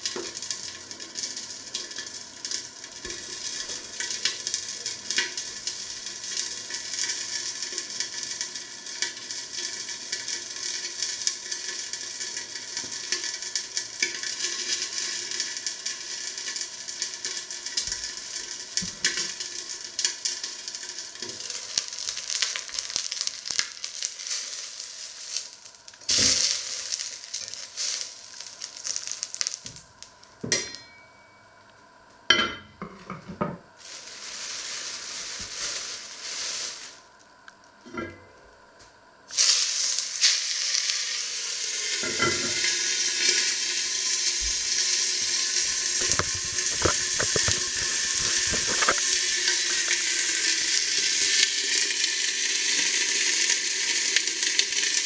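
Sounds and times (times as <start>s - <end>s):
hot oil sizzling: 0.0s - 30.8s, 32.8s - 38.0s, 38.7s - 55.0s.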